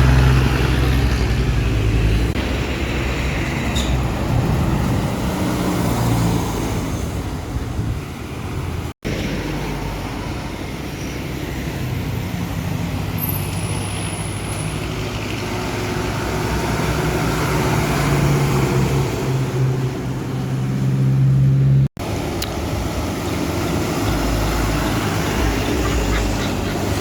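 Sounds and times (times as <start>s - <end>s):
road noise: 0.0s - 27.0s
truck engine droning: 0.0s - 27.0s.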